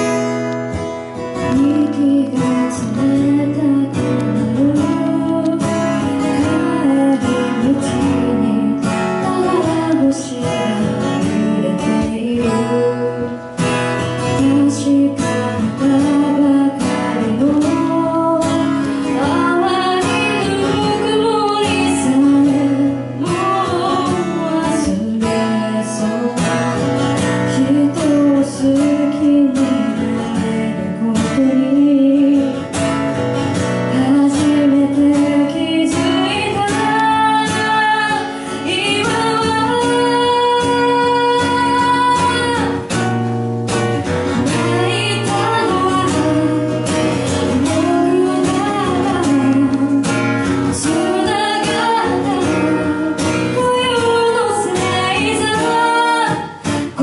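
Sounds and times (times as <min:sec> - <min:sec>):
strummed acoustic guitar: 0:00.0 - 0:57.0
woman singing into a microphone: 0:00.0 - 0:57.0.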